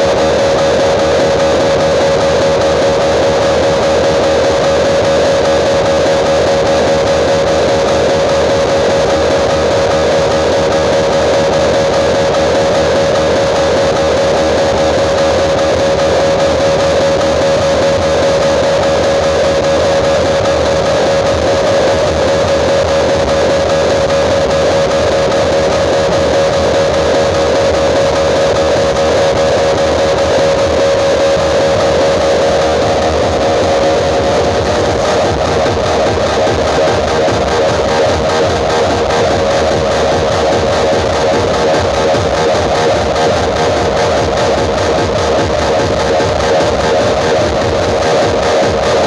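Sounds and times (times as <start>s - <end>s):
guitar music over loudspeakers: 0.0s - 49.0s.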